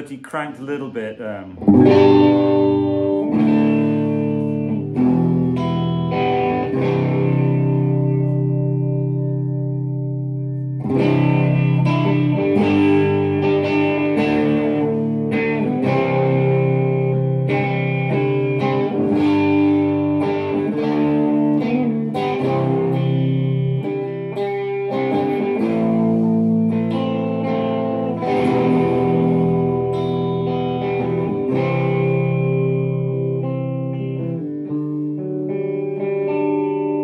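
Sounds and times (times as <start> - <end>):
overdriven electric guitar: 0.8 - 37.0.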